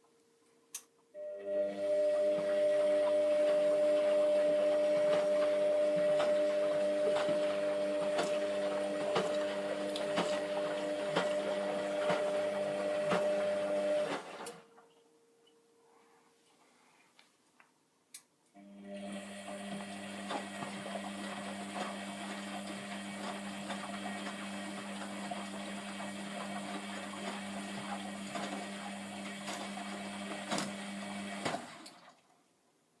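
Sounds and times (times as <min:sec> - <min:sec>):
washing machine motor humming: 0:01.2 - 0:14.7, 0:18.6 - 0:32.1.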